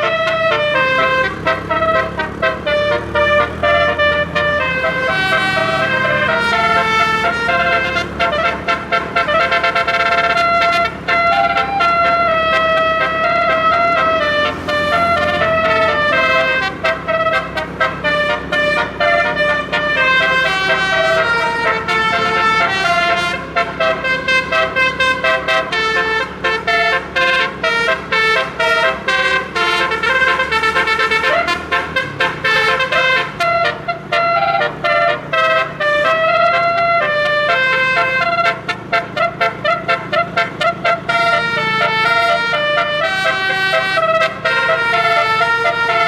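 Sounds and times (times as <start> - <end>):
bus air horn melody: 0.0 - 46.0
vehicle engine rumbling: 0.0 - 46.0.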